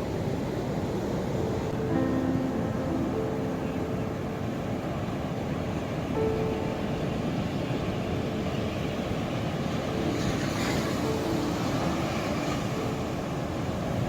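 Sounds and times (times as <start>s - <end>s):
ocean surf rumbling: 0.0s - 14.0s
wave washing in: 0.0s - 14.0s.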